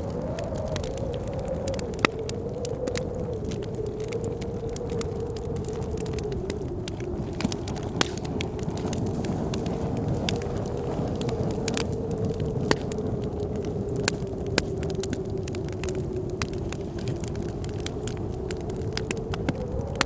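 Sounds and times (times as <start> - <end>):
whistling blizzard wind: 0.0 - 20.0
wood fire crackling and popping: 0.0 - 20.0.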